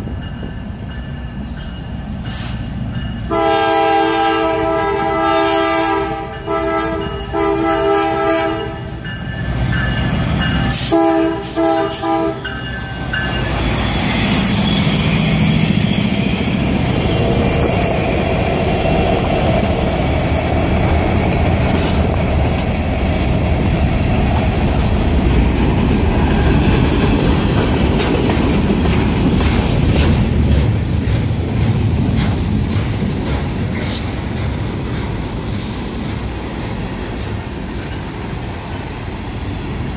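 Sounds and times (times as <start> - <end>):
train wheels rumbling and clicking: 0.0 - 39.9.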